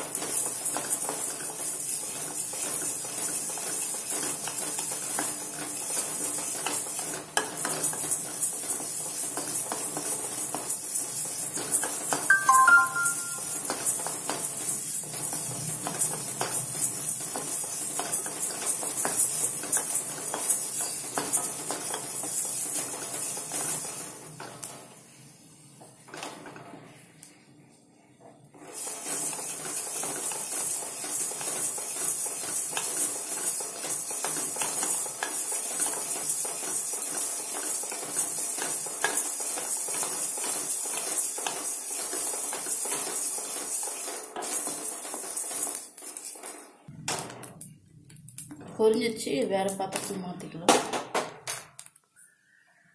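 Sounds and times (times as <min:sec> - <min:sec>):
seeds rattling in metal pan: 0:00.0 - 0:24.3, 0:28.7 - 0:46.9.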